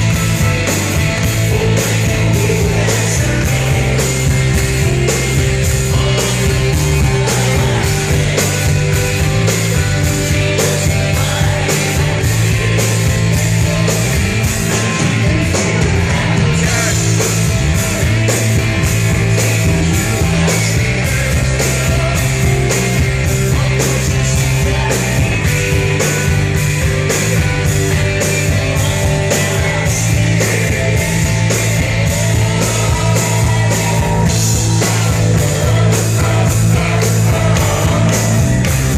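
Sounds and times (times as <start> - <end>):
drums beating: 0.0 - 38.9
rock band playing live: 0.0 - 38.9.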